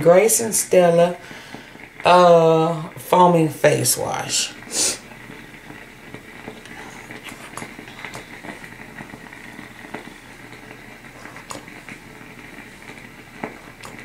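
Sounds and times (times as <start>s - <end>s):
facial steamer hissing: 0.2s - 3.0s, 4.0s - 14.0s.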